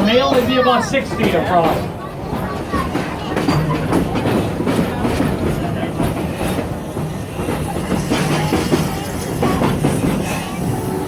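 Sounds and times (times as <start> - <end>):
train cars rumbling and rattling: 0.0 - 11.0
wheels clicking over rail joints: 0.0 - 11.0.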